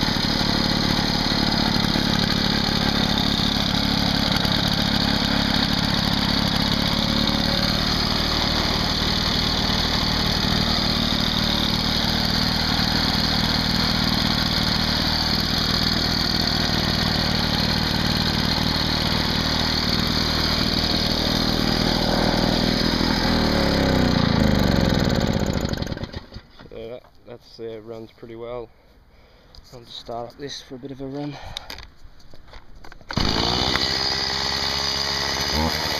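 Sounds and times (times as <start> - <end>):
lawn mower engine running: 0.0 - 26.6, 33.1 - 35.9.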